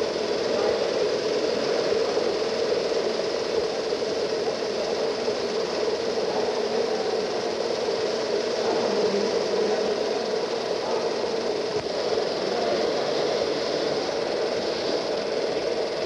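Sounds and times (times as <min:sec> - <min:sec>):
steam engine mechanical din: 0:00.0 - 0:16.0
steam hiss: 0:00.0 - 0:16.0.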